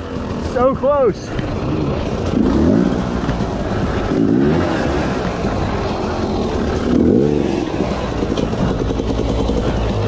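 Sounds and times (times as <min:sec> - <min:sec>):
dirt bike engine revving: 0:01.4 - 0:10.0.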